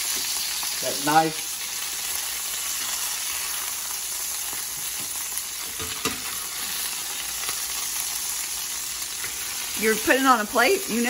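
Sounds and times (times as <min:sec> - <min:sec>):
chicken sizzling in hot fat: 0:00.0 - 0:11.0.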